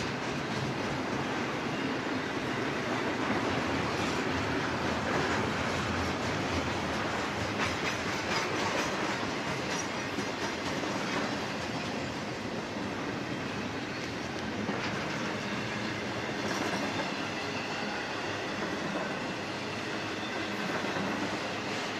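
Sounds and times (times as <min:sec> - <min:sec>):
steel wheels rumbling on rail: 0:00.0 - 0:21.9.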